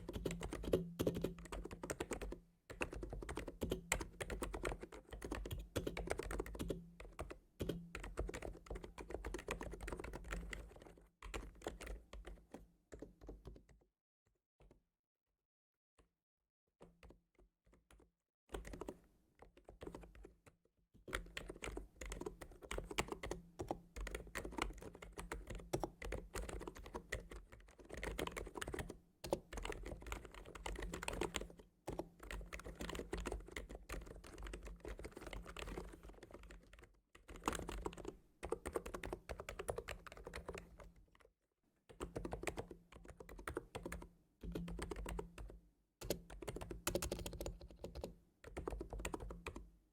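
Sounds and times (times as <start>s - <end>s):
computer keyboard typing: 0.0s - 13.8s, 17.9s - 19.0s, 21.1s - 40.9s, 41.9s - 49.7s.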